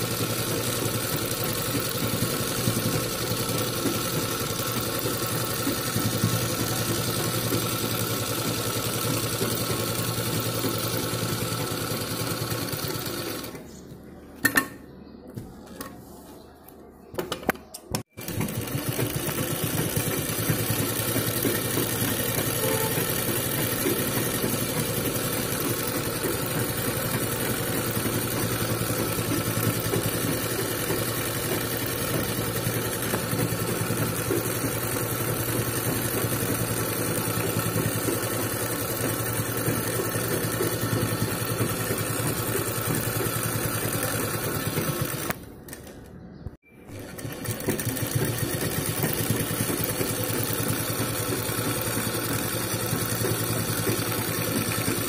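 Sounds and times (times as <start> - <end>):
sewing machine stitching: 0.0 - 13.6, 18.1 - 45.9, 46.9 - 55.0.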